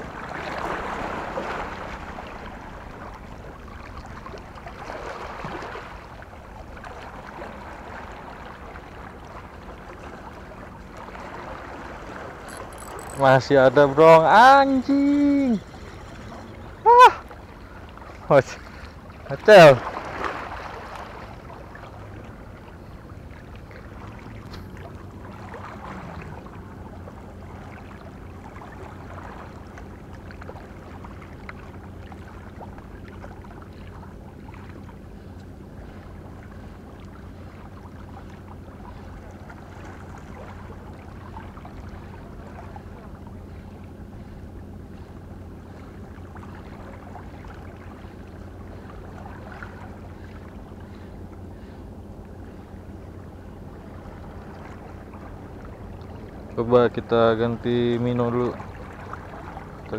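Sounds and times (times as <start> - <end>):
boat engine hum: 0.0 - 59.9.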